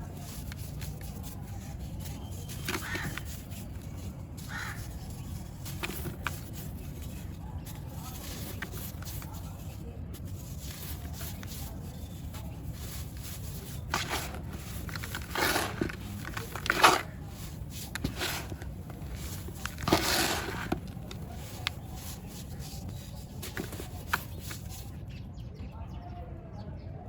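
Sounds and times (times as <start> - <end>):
dry lumps being crushed: 0.0 - 25.0.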